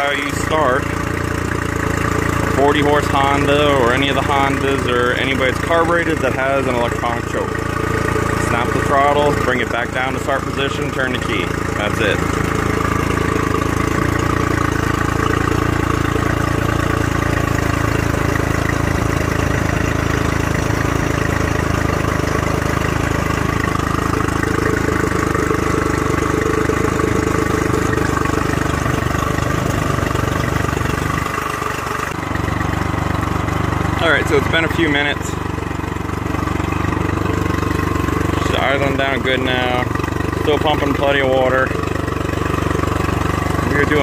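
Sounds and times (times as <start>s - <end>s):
outboard engine idling: 0.0s - 44.0s.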